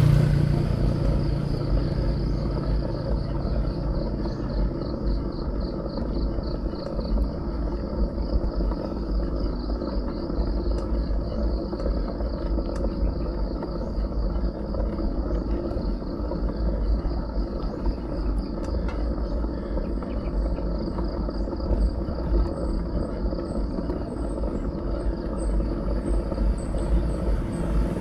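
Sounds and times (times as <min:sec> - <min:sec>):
insects chorus: 0:00.0 - 0:28.0
wind and riding noise: 0:00.0 - 0:28.0.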